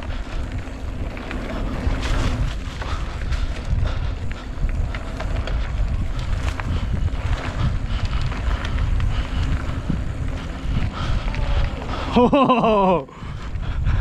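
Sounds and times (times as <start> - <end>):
mountain bike rattling on dirt trail: 0.0 - 14.0
wind on microphone: 0.0 - 14.0.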